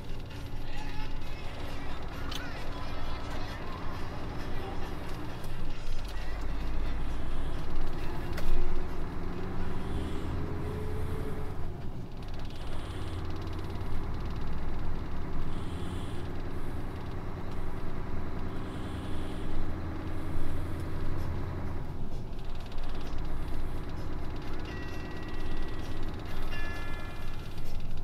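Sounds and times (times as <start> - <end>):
truck engine humming: 0.0 - 28.0.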